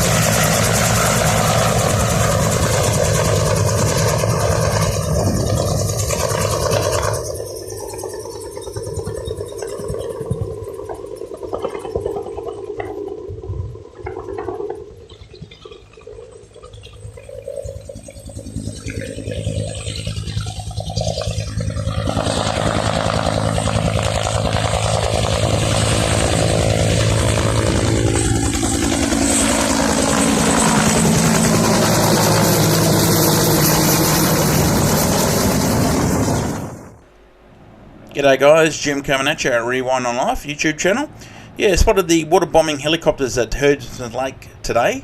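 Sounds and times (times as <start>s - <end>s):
helicopter rotor and engine: 0.0s - 45.0s.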